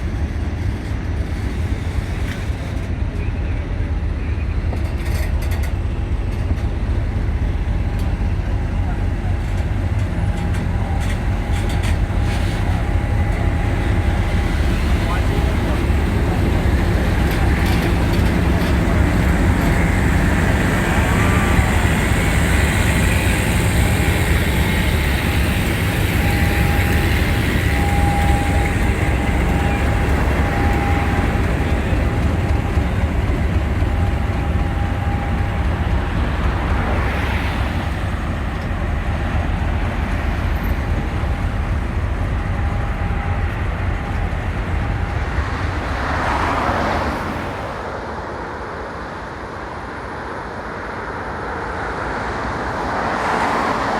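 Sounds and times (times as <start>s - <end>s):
diesel locomotive engine rumbling: 0.0s - 53.9s.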